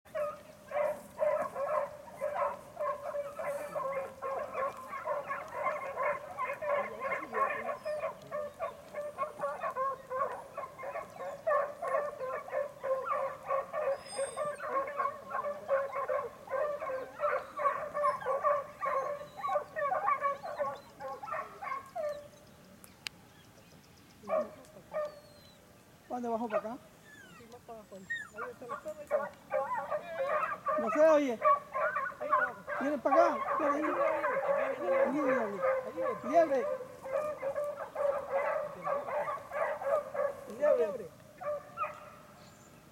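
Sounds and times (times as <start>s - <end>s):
dogs barking and baying: 0.1s - 22.4s, 24.2s - 25.6s, 26.3s - 42.4s.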